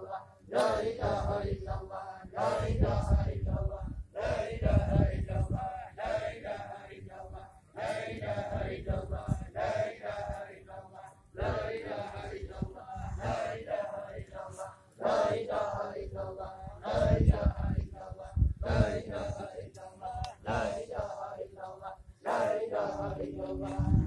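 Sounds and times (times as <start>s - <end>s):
crowd chanting in unison: 0.0s - 24.0s.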